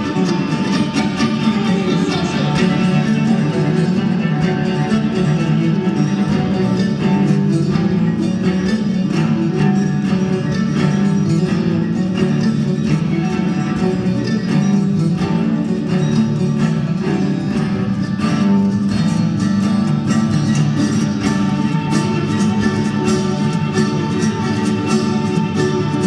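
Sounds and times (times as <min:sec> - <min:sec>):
acoustic string band playing: 0:00.0 - 0:26.0
guitar picked and strummed: 0:00.0 - 0:26.0.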